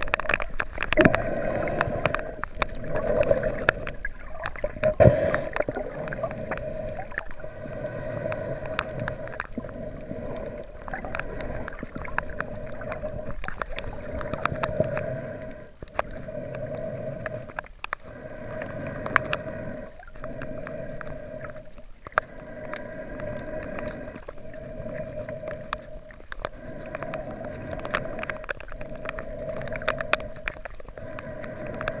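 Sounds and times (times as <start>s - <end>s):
muffled underwater hum: 0.0s - 32.0s
sharp underwater clicks: 0.0s - 32.0s.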